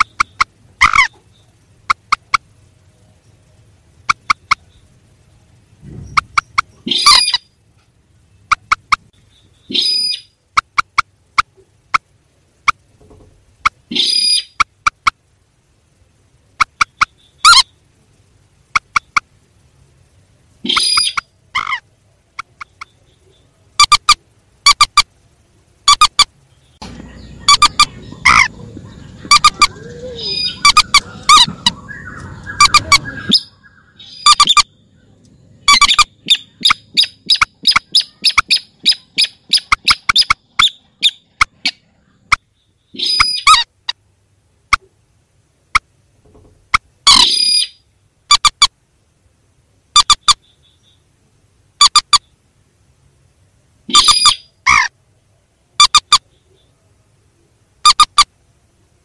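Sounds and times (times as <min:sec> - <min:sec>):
rails calling: 0:00.0 - 0:48.8
low background rumble: 0:00.0 - 0:59.0.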